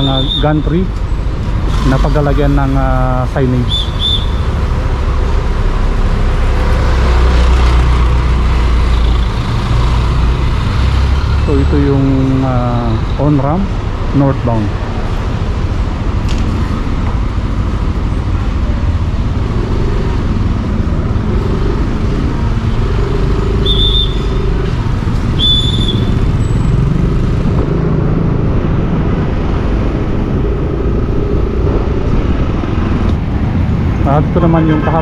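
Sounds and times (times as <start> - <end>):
road and traffic noise: 0.0 - 35.0.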